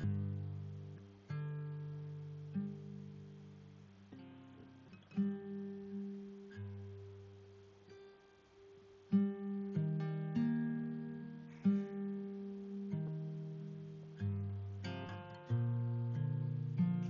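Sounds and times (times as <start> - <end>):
guitar plucking slow chords: 0.0 - 17.0.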